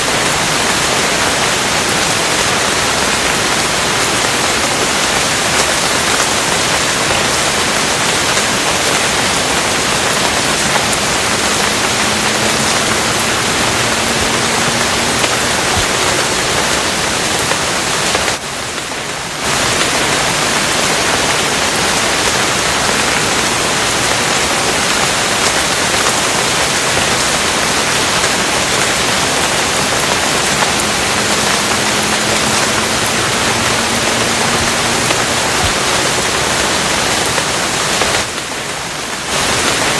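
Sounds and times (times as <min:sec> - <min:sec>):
dense rain hissing: 0:00.0 - 0:39.9.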